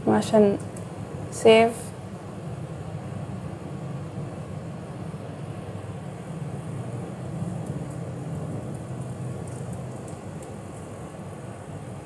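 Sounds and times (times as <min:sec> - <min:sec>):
low room rumble: 0:00.0 - 0:12.0.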